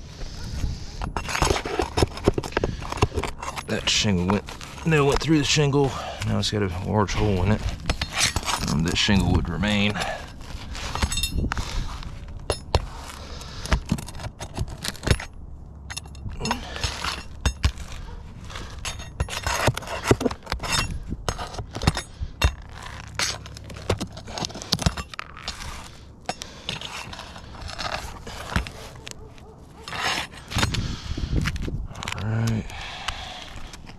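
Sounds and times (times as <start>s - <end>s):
metal bar prying under shingles: 1.0s - 6.3s, 7.2s - 11.6s, 12.3s - 30.8s.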